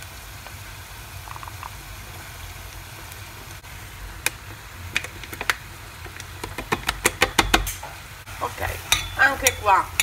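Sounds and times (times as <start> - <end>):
faint pan sizzle: 0.0 - 10.0.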